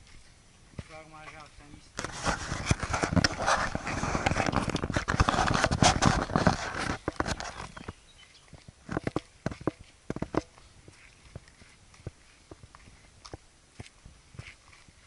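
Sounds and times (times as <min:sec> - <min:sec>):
scraping and crackling: 0:00.8 - 0:08.0, 0:08.6 - 0:15.0.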